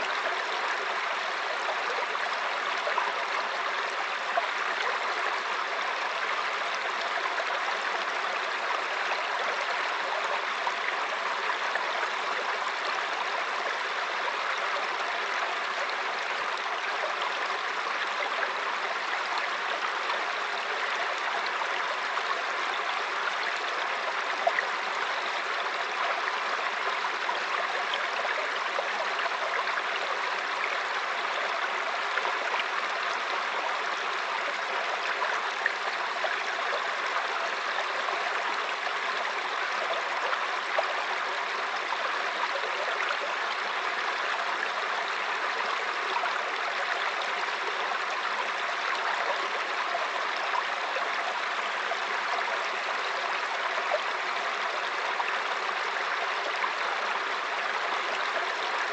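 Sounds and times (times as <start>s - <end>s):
stream flowing over rocks: 0.0s - 58.9s.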